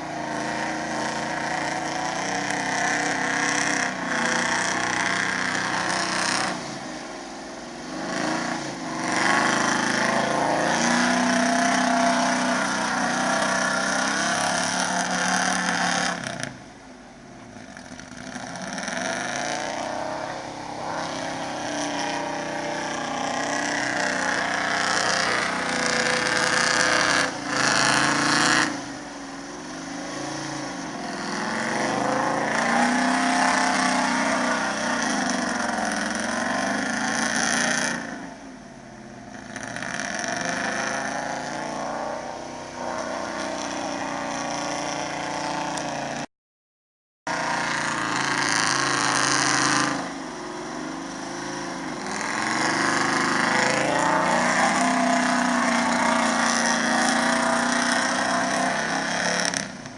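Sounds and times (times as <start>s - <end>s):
truck engine revving: 0.0s - 16.7s, 17.6s - 38.3s, 39.3s - 46.3s, 47.3s - 59.9s.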